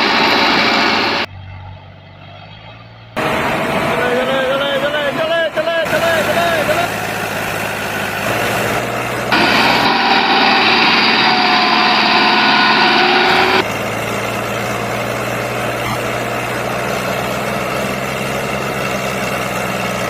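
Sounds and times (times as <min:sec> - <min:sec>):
louder higher-pitched engine noise: 0:00.0 - 0:20.0
tractor diesel engine running: 0:00.0 - 0:20.0.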